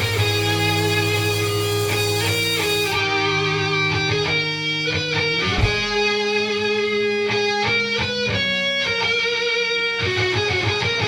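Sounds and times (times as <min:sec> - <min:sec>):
electric guitar instrumental music: 0:00.0 - 0:11.0.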